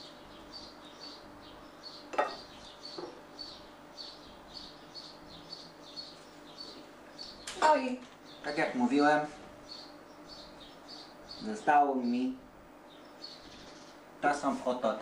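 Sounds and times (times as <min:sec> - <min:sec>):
small bird chirping: 0:00.0 - 0:08.7, 0:09.6 - 0:12.2, 0:12.8 - 0:14.1.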